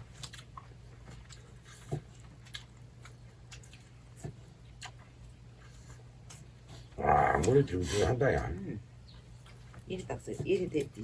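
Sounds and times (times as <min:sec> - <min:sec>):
chewing: 0:00.0 - 0:11.0
faint low hum: 0:00.0 - 0:11.0.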